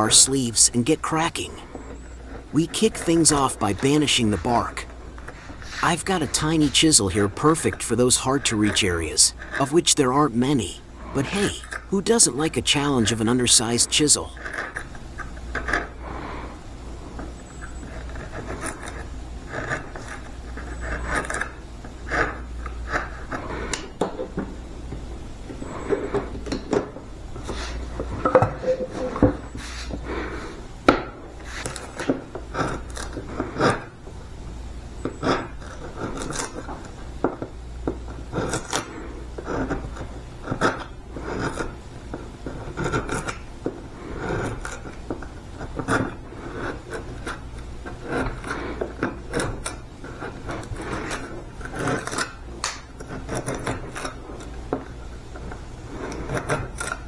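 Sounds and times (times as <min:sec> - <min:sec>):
chisel scraping wood: 0:01.6 - 0:03.1, 0:04.8 - 0:05.8, 0:09.3 - 0:09.6, 0:10.9 - 0:11.9, 0:14.4 - 0:34.2, 0:34.9 - 0:57.0.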